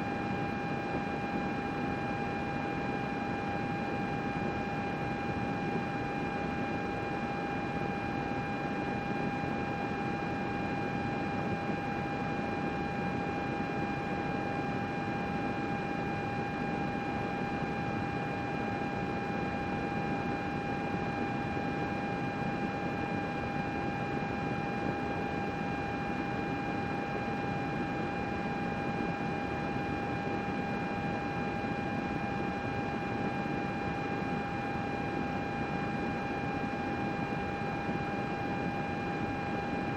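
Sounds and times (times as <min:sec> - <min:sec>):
computer cooling fans running: 0:00.0 - 0:39.9.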